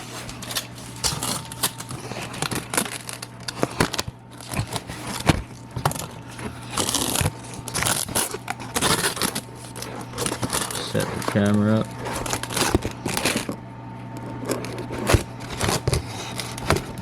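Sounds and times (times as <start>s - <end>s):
handling clicks knocks and scrapes: 0.0s - 17.0s
steady low hum: 0.0s - 17.0s.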